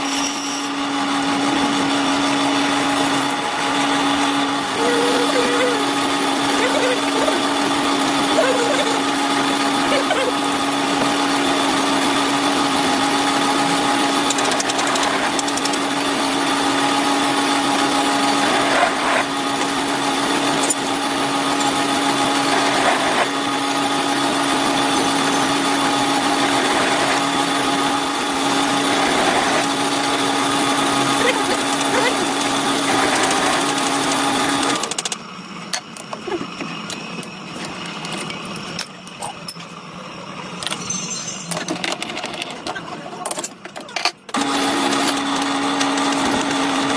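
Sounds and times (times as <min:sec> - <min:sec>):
electric motor humming: 0:00.1 - 0:40.8.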